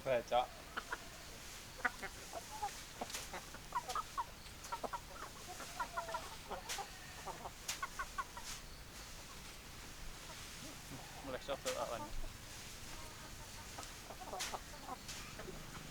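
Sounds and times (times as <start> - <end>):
hens clucking: 0.0 - 15.9.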